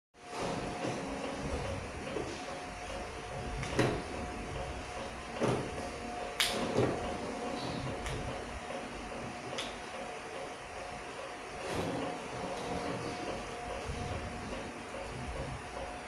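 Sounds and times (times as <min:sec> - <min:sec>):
conveyor machine humming: 0:00.2 - 0:16.0.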